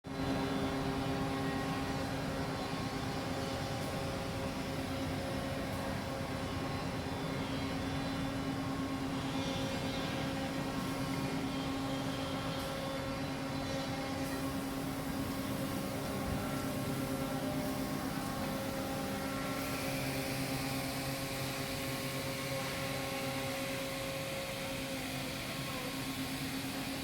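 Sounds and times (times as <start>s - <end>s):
cnc machine humming: 0.1s - 27.0s.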